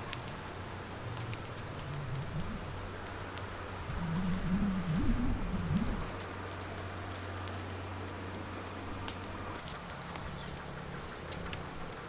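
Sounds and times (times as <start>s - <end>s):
background hiss: 0.0s - 12.0s
steady low hum: 0.0s - 12.0s
twigs and leaves rustling: 0.0s - 12.0s.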